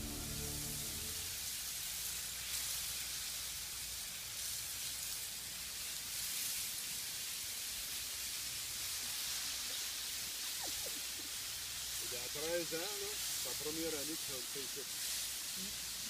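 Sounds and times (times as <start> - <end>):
ice shards churning with high hiss: 0.0 - 16.0.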